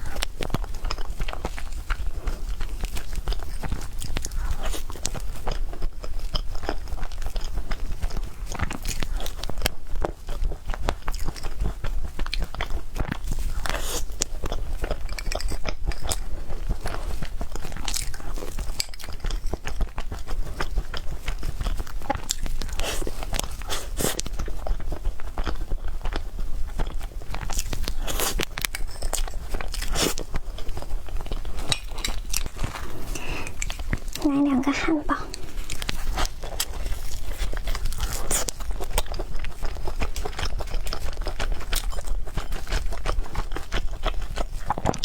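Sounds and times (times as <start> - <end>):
person chewing: 0.0 - 45.0.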